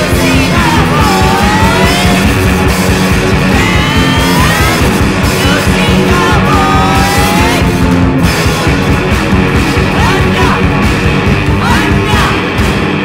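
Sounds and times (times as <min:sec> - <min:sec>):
distorted guitars: 0:00.0 - 0:13.0
steady drums: 0:00.0 - 0:13.0.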